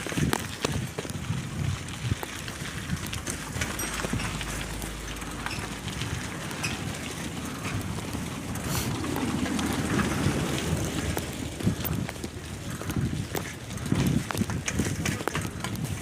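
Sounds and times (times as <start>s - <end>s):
bicycle tyre road noise: 0.0s - 16.0s
small clicks and crackles: 0.0s - 16.0s.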